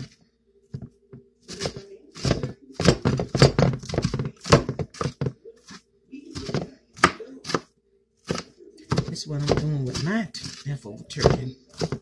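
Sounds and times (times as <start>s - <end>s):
knife chopping on cutting board: 1.5s - 12.0s.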